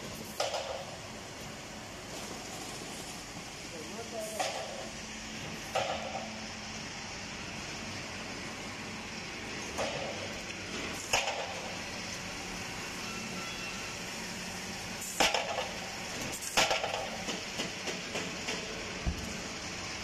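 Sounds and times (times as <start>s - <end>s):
machinery humming: 0.0s - 20.0s.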